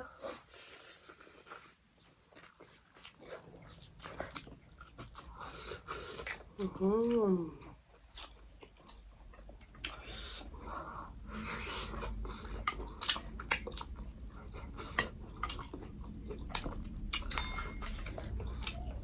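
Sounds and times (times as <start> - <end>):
chewing and mouth sounds: 0.2 - 19.0.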